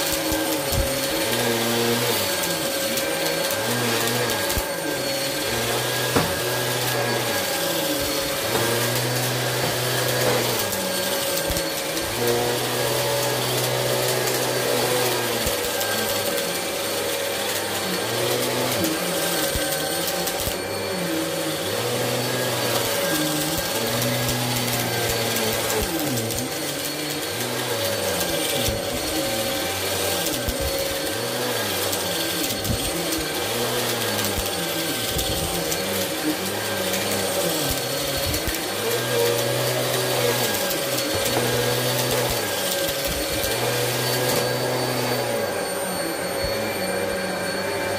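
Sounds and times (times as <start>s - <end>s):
vacuum cleaner on carpet: 0.0s - 47.9s.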